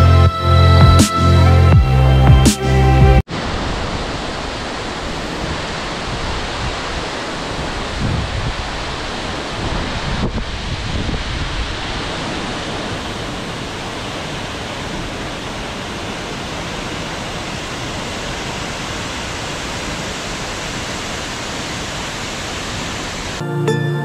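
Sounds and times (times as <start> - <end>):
waterfall rushing: 2.9 - 23.4.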